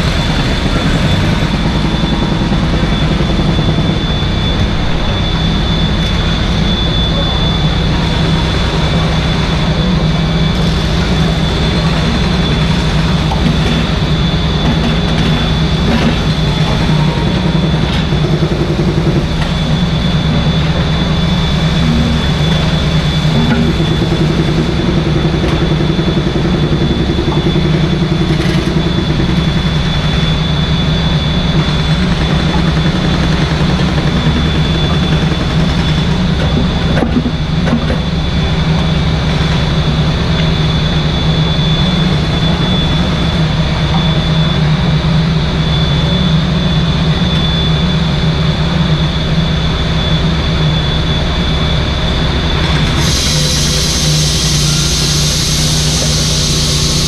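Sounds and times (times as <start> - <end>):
excavator diesel engine running: 0.0 - 57.0
high whine: 0.0 - 57.0.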